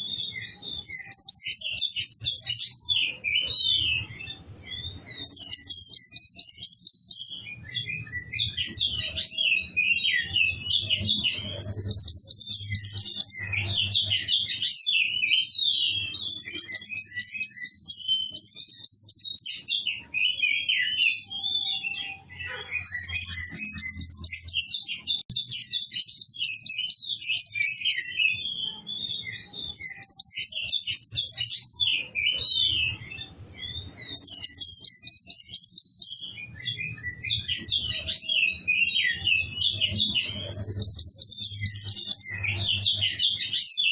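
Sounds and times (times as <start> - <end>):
songbird singing buzzy trills: 0.0 - 43.9.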